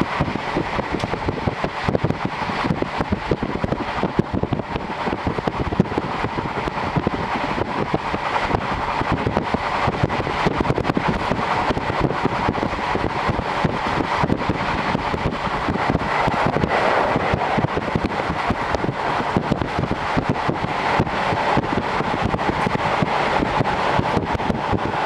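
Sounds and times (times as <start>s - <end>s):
rushing air: 0.0s - 25.0s
train wheels rumbling on rail: 0.0s - 25.0s.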